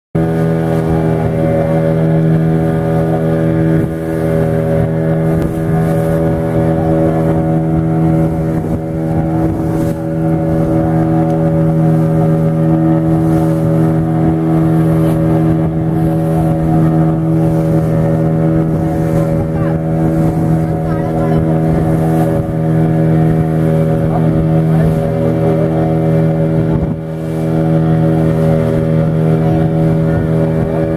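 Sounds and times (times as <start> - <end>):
motorboat engine droning: 0.2 - 30.9.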